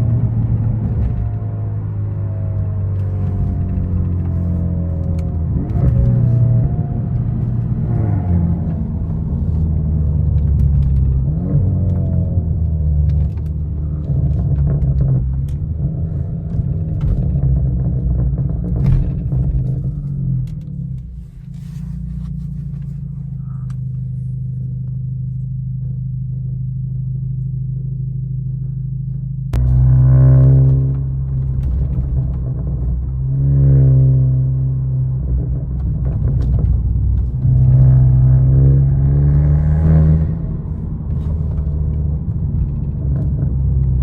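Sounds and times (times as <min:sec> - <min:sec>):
car engine accelerating through gears: 0:00.0 - 0:44.0.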